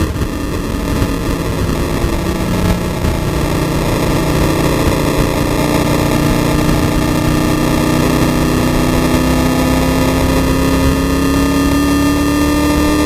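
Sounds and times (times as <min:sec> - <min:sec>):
race car engine at full throttle: 0:00.0 - 0:13.0
wind and road noise: 0:00.0 - 0:13.0.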